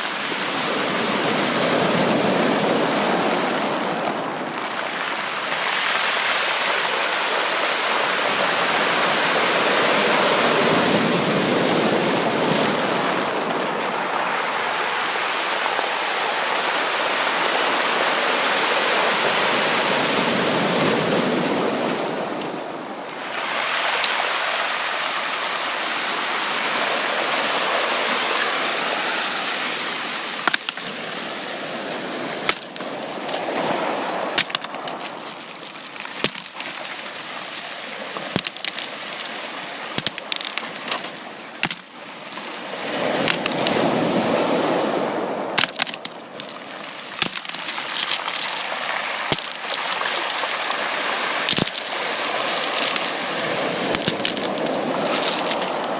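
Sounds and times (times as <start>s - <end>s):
sea waves breaking on beach: 0.0s - 55.9s.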